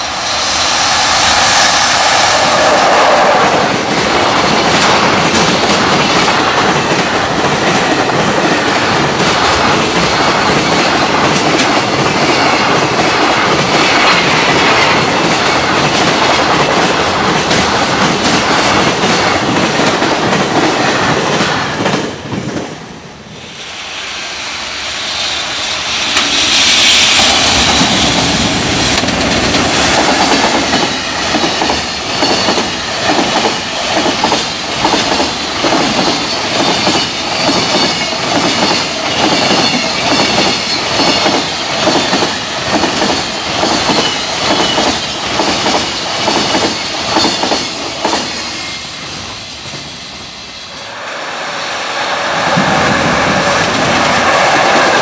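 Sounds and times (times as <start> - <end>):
freight train wheels clattering: 0.1 - 22.8, 25.5 - 50.2.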